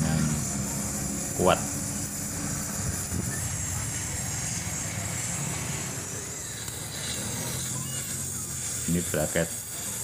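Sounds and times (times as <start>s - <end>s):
welding arc hissing: 0.0s - 10.0s.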